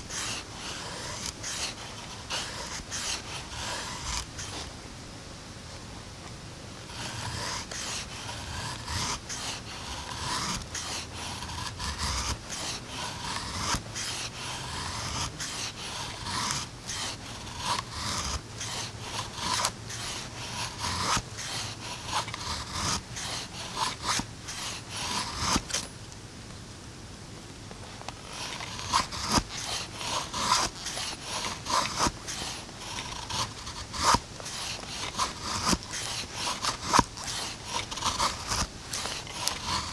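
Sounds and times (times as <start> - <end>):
knife scraping wooden stick: 0.0 - 4.7, 6.8 - 25.9, 28.0 - 39.9.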